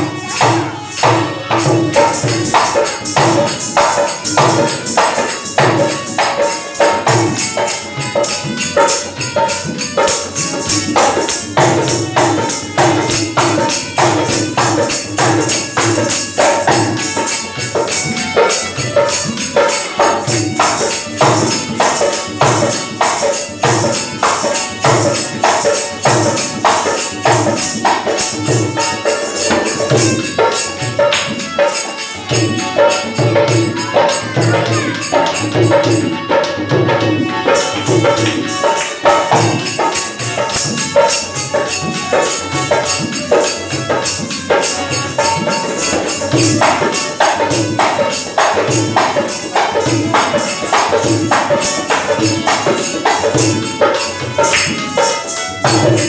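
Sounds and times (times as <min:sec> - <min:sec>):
drum in driving rhythm: 0:00.0 - 0:56.0
jingling percussion: 0:00.0 - 0:56.0.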